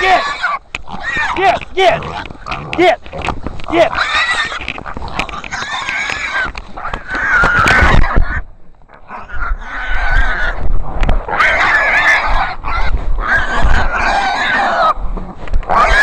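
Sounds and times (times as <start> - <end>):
pig squealing loudly: 0.0 - 8.4, 9.0 - 15.0, 15.7 - 16.0.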